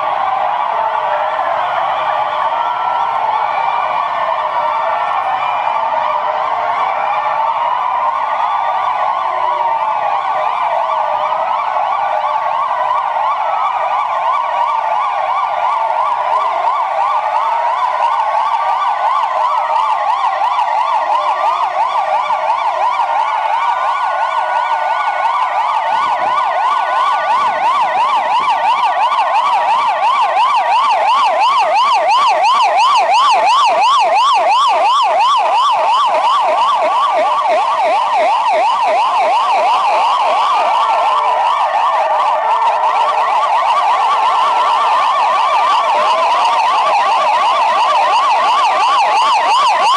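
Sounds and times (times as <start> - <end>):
police sirens wailing: 0.0 - 49.9.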